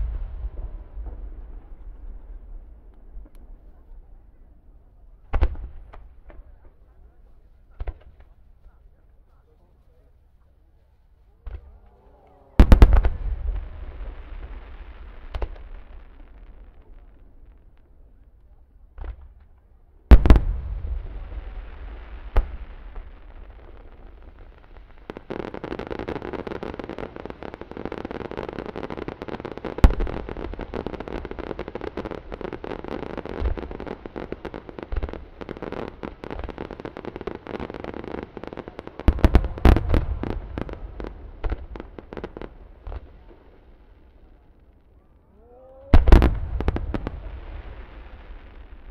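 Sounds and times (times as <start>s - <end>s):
fireworks booms and bursts: 0.0s - 9.0s, 12.6s - 45.1s, 45.9s - 48.9s.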